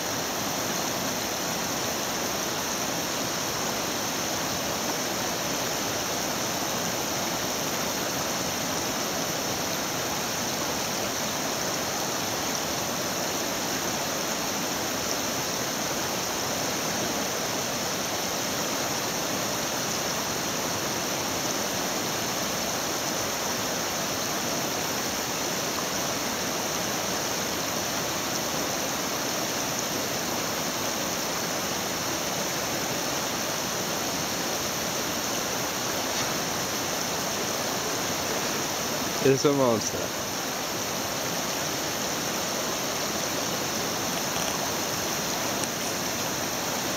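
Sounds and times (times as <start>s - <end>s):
river rushing over rocks: 0.0s - 46.9s.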